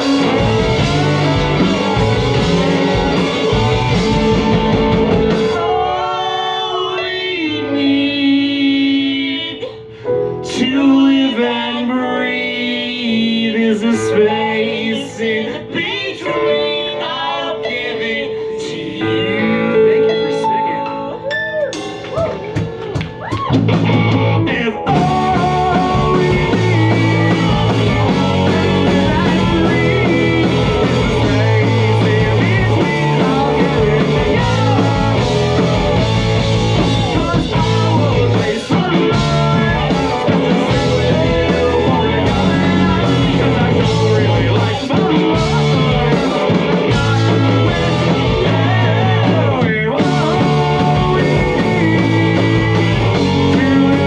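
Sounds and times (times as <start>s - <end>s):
rock band with horns playing: 0.0s - 8.2s, 13.0s - 54.0s.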